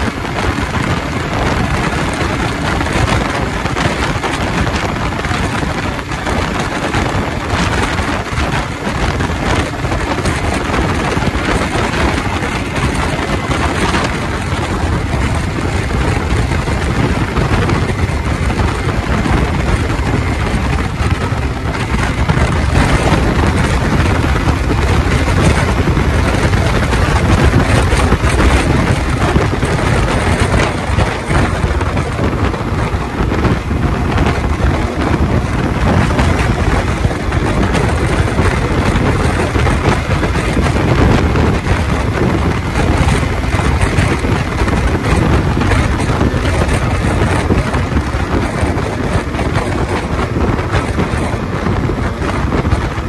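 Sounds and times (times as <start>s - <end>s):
motorcycle engine and road noise: 0.0s - 53.0s
wind buffeting microphone: 0.0s - 53.0s.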